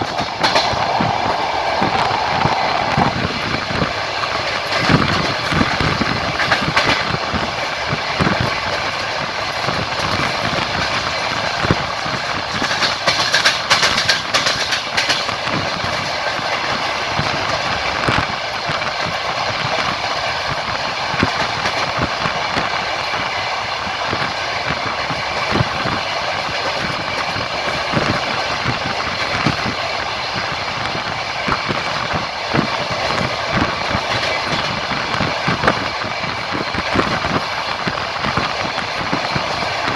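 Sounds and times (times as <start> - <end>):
train rattling: 0.0 - 39.9
train rumbling on tracks: 0.0 - 39.9.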